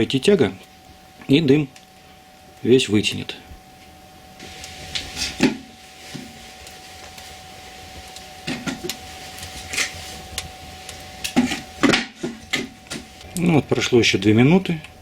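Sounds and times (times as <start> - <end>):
faint steady hum: 0.0 - 15.0
wood fire crackling and popping: 0.0 - 15.0.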